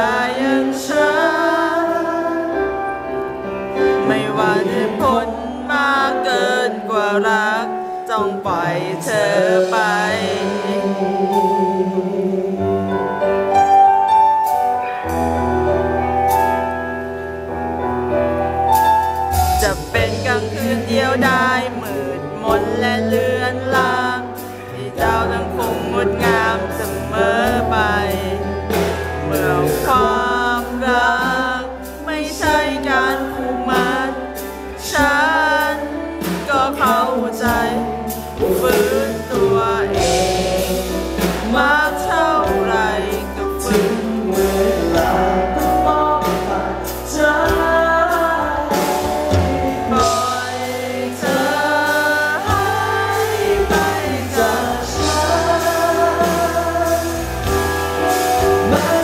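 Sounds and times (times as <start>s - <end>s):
man singing into a microphone: 0.0s - 13.8s, 19.4s - 59.0s
live band playing: 0.0s - 59.0s.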